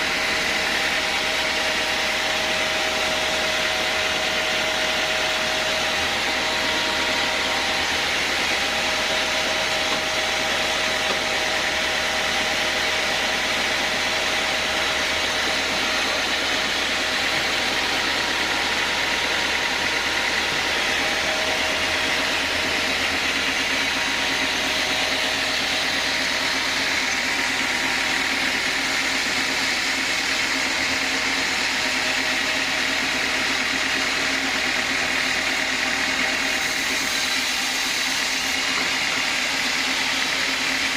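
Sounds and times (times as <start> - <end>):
band saw machinery whining: 0.0 - 40.9.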